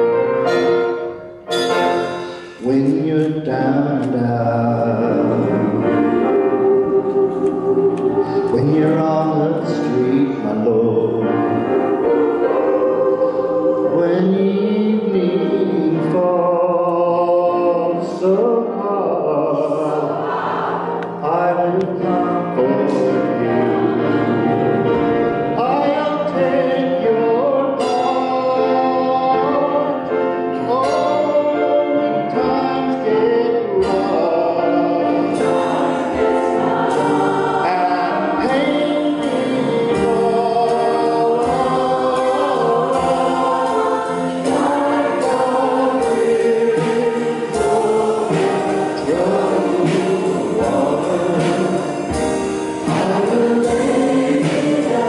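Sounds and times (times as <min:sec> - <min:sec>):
choir singing in harmony: 0:00.0 - 0:55.0
man singing into a microphone: 0:02.5 - 0:06.3, 0:08.2 - 0:11.8, 0:13.8 - 0:20.2, 0:21.0 - 0:23.8, 0:25.5 - 0:55.0.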